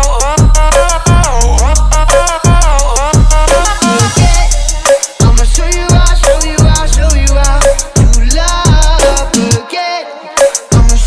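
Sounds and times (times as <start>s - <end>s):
heavy bass drum: 0.0s - 9.6s, 10.6s - 11.0s
steady hi-hat: 0.0s - 9.6s, 10.4s - 11.0s
synth melody: 0.0s - 9.6s
pop hip-hop music: 0.0s - 11.0s.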